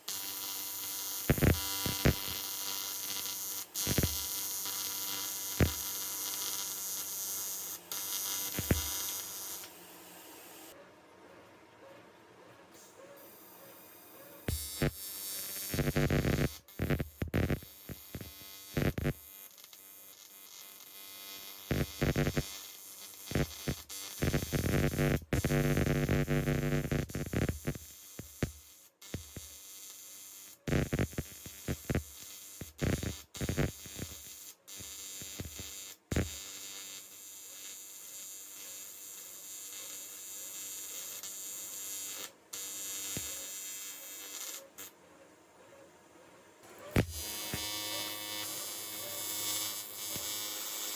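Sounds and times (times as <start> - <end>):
welder arc buzzing: 0.0 - 10.8, 13.2 - 45.0, 46.6 - 50.9.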